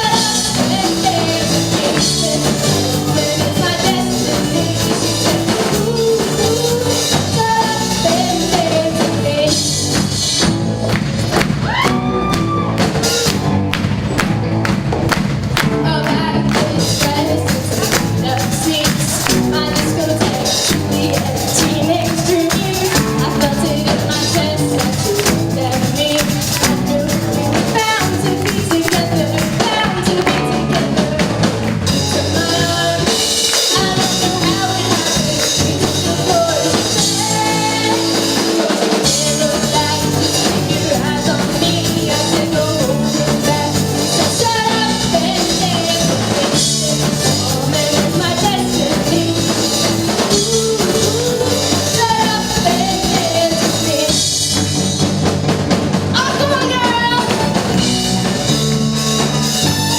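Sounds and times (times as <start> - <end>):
person singing: 0.0 - 10.0, 15.6 - 54.7
live rock band playing: 0.0 - 59.9.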